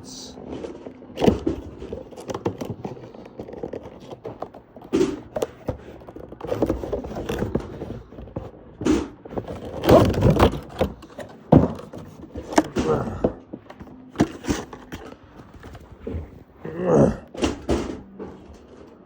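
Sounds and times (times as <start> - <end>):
packaging scraping and rustling: 0.4 - 16.6.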